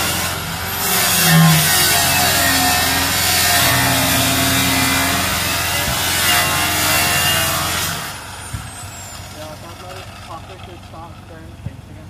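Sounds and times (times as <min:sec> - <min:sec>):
power tool cutting metal: 0:00.0 - 0:10.7
motor hum: 0:00.0 - 0:12.0.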